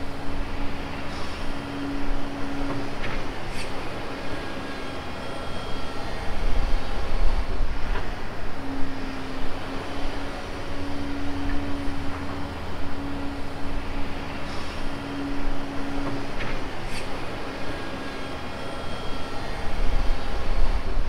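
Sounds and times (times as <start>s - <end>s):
diesel engine rumble: 0.0s - 21.0s
steady machine whine: 0.0s - 21.0s.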